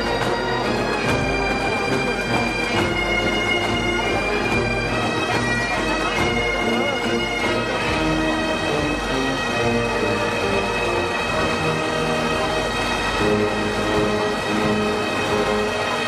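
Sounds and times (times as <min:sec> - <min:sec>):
bagpipes playing a tune: 0:00.0 - 0:16.0.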